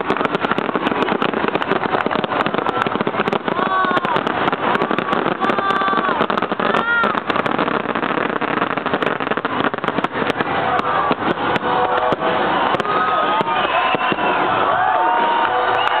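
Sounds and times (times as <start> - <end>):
fireworks bangs and crackles: 0.0 - 16.0
crowd voices calling out: 0.1 - 16.0.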